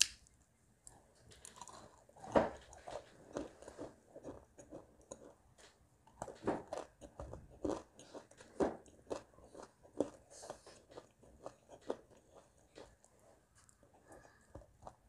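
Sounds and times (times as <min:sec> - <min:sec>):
person chewing crunchy clay: 0:00.9 - 0:15.0.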